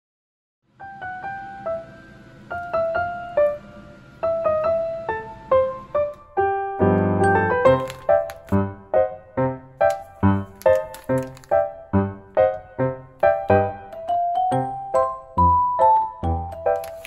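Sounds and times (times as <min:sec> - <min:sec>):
piano melody: 0:00.7 - 0:17.0.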